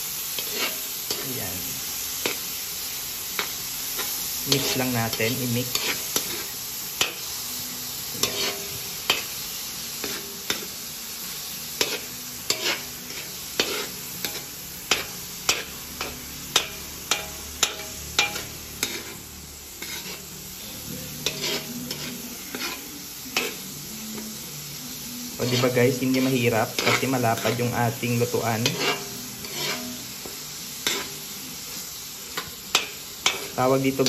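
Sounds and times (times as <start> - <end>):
meat sizzling in oil: 0.0 - 34.0
metal spatula scraping a pan: 0.2 - 2.7, 3.3 - 7.4, 8.1 - 9.4, 10.0 - 10.8, 11.8 - 24.5, 25.2 - 34.0.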